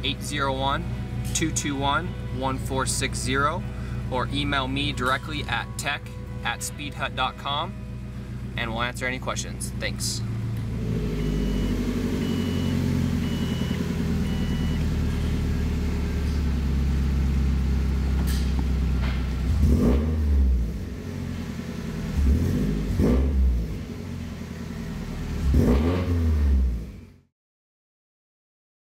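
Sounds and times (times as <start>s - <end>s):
car engine idling and revving: 0.0s - 27.3s.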